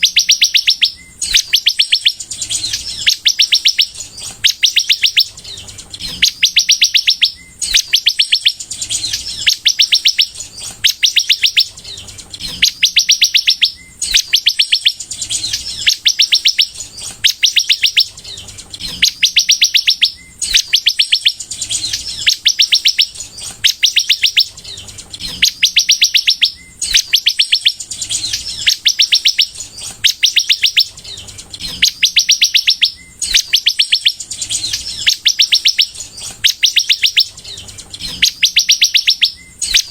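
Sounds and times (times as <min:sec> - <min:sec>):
sunbird singing high notes: 0:00.0 - 0:39.9.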